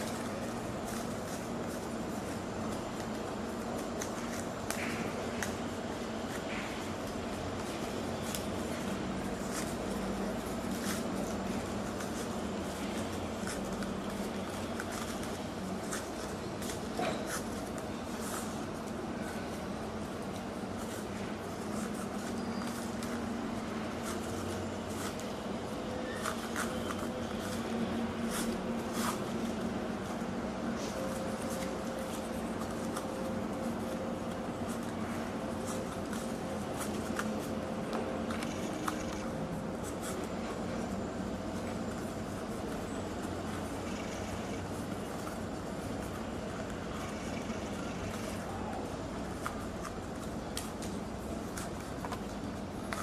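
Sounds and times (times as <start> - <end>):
palm leaf rustling and crackling: 0.0 - 53.0
steady low hum and hiss: 0.0 - 53.0.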